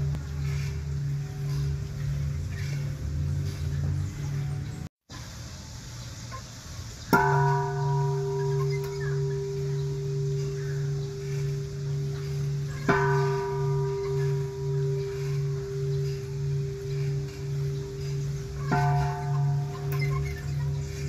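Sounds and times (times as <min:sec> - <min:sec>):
large bell ringing: 0:00.0 - 0:04.8, 0:07.1 - 0:21.0.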